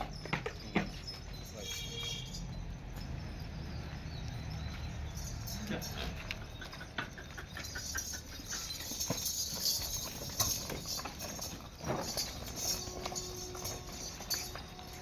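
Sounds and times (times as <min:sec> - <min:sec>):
goat hooves clattering: 0:00.0 - 0:15.0.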